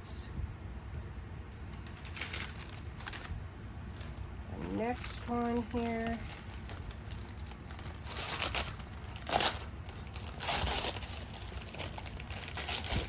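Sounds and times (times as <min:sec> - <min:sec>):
plastic wrapping crinkling: 0:01.8 - 0:13.0.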